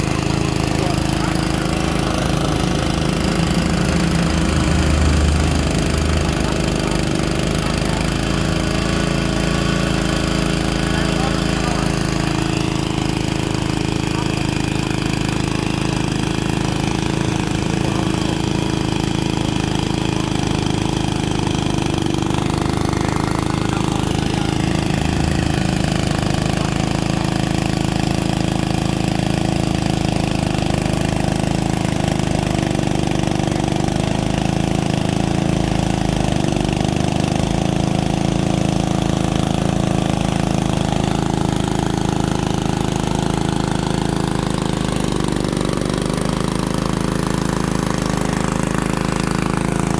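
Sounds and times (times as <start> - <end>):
drilling rig engine running: 0.0 - 49.9.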